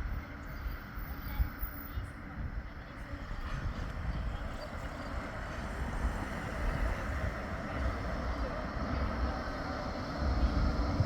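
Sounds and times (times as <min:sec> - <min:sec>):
tram running on track: 0:00.0 - 0:11.0
wind buffeting microphone: 0:00.0 - 0:11.0.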